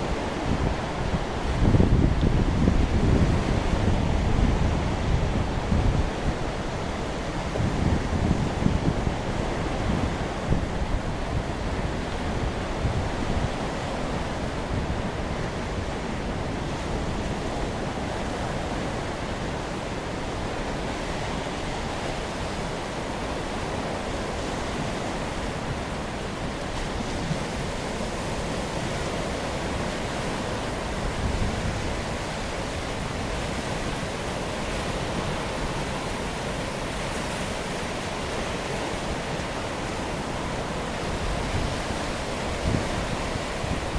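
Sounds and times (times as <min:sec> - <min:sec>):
choppy sea surf: 0:00.0 - 0:43.9
storm wind: 0:00.0 - 0:43.9.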